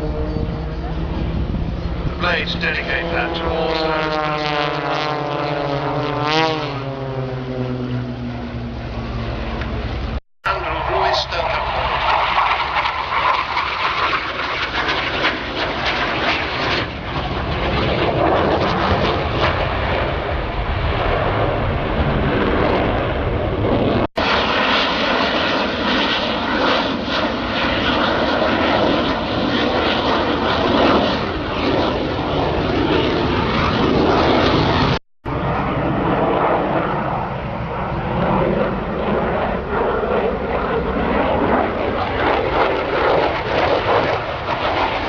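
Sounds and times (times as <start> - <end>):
aircraft engine noise: 0.0 - 45.0.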